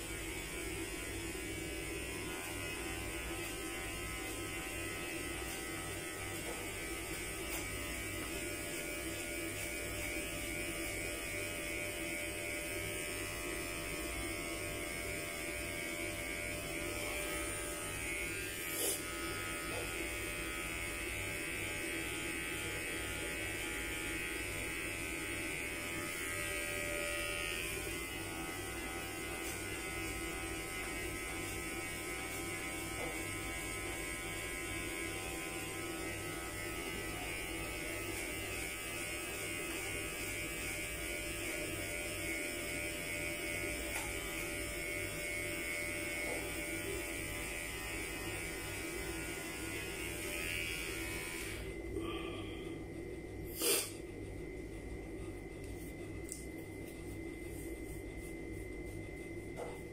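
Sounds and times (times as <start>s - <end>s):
electric hair clippers running: 0.0s - 52.1s, 53.5s - 54.0s.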